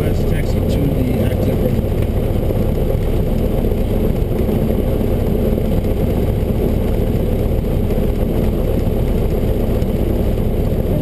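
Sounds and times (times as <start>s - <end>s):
propeller plane engine idling: 0.0s - 11.0s.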